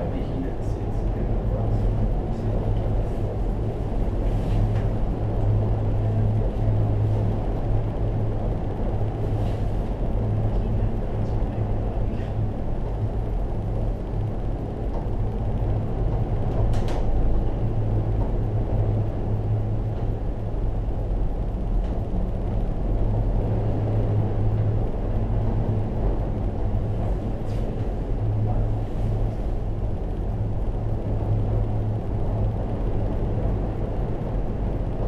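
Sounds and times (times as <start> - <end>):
cable car cabin hum and rumble: 0.0 - 35.0.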